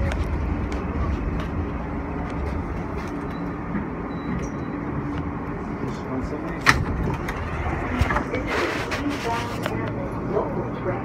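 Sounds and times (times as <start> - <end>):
subway car rumbling: 0.0 - 11.0.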